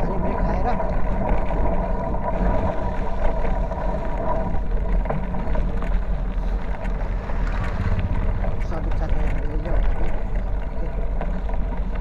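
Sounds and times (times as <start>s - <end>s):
tyre road noise: 0.0s - 12.0s
wind buffeting microphone: 0.0s - 12.0s.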